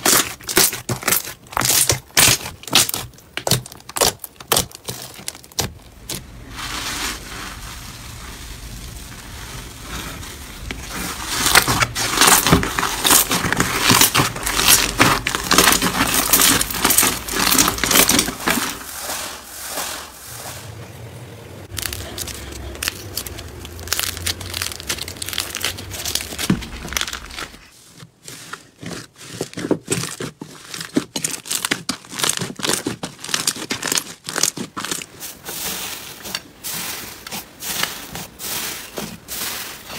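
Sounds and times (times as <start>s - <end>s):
hands squeezing slime: 0.0s - 20.2s, 21.7s - 39.9s
crunchy bead slime crackle: 0.0s - 20.6s, 21.7s - 39.9s.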